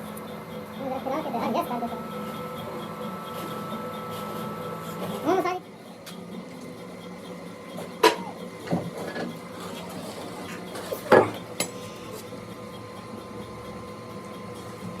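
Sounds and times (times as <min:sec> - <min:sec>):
workshop background: 0:00.0 - 0:15.0.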